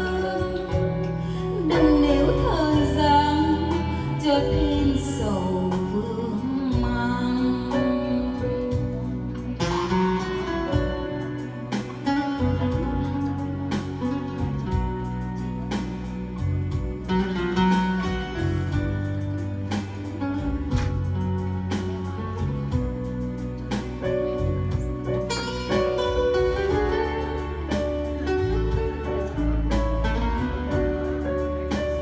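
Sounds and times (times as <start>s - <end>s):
instrumental ballad music: 0.0s - 32.0s.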